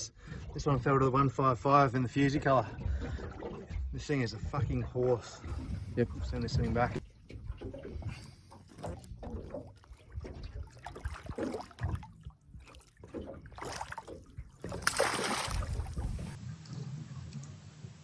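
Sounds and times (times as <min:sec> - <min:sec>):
seawater sloshing against hull: 0:00.0 - 0:16.4.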